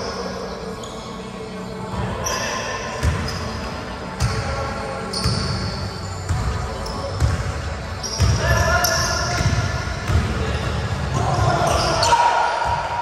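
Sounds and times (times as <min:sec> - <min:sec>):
sneaker squeaks on floor: 0:00.0 - 0:01.3, 0:01.9 - 0:04.4, 0:05.0 - 0:12.2.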